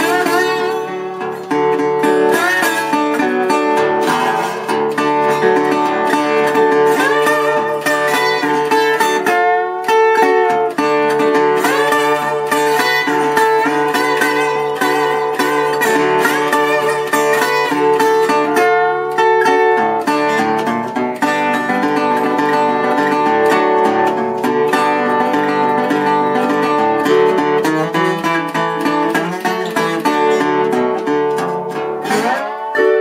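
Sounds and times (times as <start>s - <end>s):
slide resonator guitar blues: 0.0s - 33.0s.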